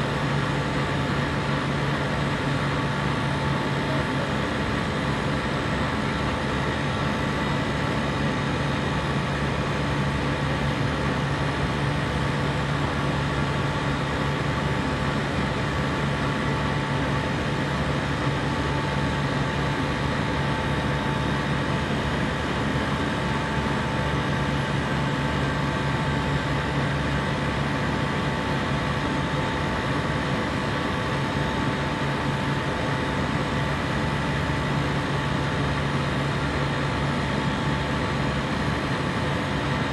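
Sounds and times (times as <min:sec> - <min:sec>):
compressor humming: 0:00.0 - 0:39.9.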